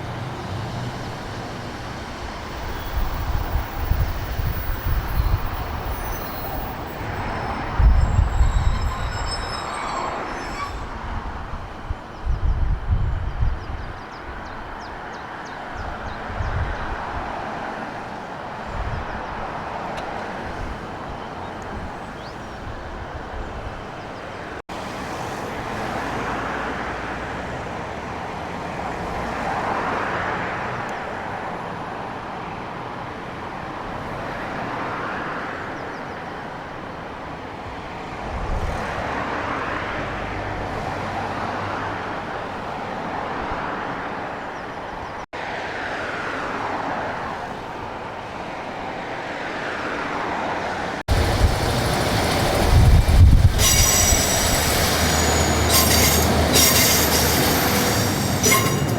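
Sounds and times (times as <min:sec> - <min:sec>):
vehicles passing: 0:00.0 - 0:12.0, 0:14.3 - 0:58.9.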